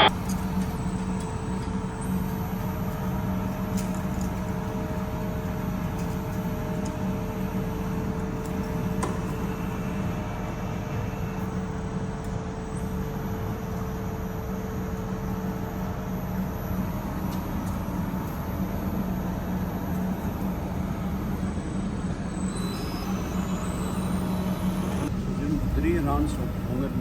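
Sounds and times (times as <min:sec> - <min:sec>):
machine motor hum: 0:00.0 - 0:27.0.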